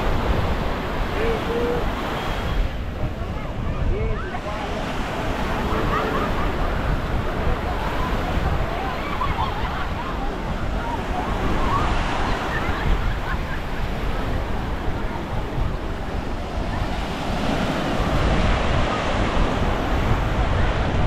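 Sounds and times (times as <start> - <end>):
gentle waves on sandy beach: 0.0 - 21.0
wind rumbling on microphone: 0.0 - 21.0.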